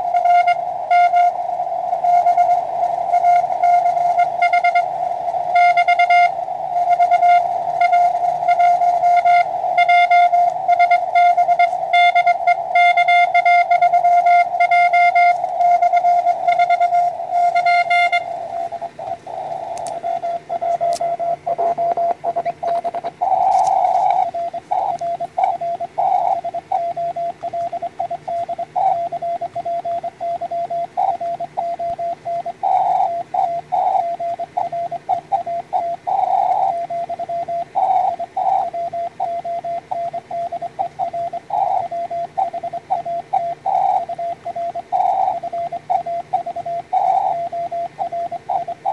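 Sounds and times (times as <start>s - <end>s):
faint radio hiss: 0.0s - 48.9s
morse code tone: 0.0s - 48.9s.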